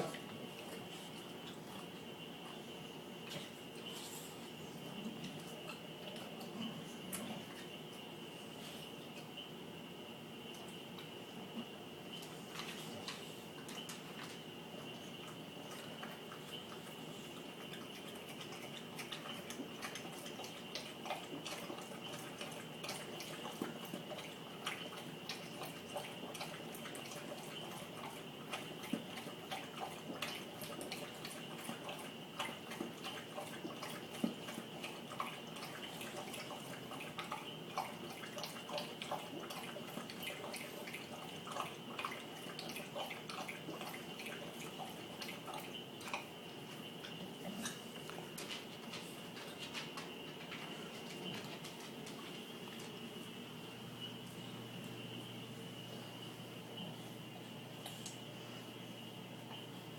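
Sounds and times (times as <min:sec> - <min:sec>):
dog lapping water: 0:00.0 - 0:09.4, 0:10.5 - 0:53.0.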